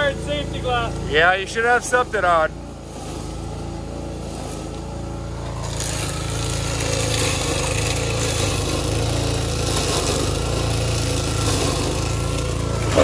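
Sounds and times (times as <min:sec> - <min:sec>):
string-trimmer mower engine running: 0:00.0 - 0:13.0
hiss of cutting weeds: 0:00.2 - 0:13.0.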